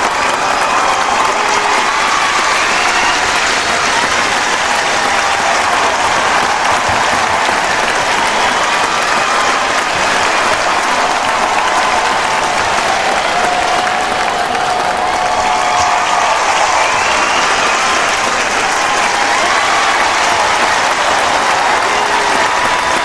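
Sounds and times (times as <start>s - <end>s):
crowd applauding: 0.0s - 23.0s
crowd cheering and shouting: 0.0s - 23.0s.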